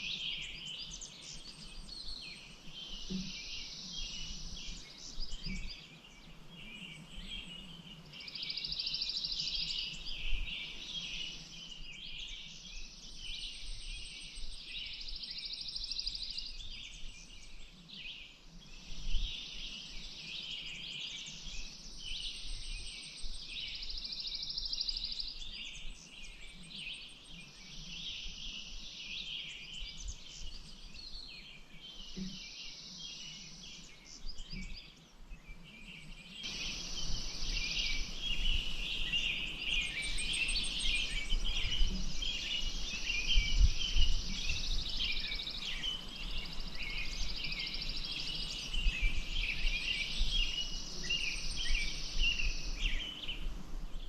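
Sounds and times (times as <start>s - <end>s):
birds chirping and singing: 0.0s - 54.0s
faint steady hiss: 0.0s - 54.0s.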